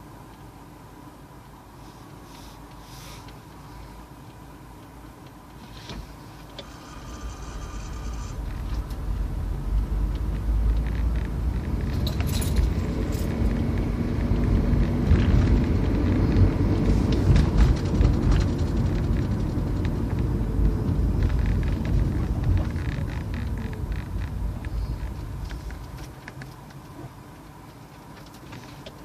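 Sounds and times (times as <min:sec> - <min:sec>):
car rumbling: 0:00.0 - 0:29.0.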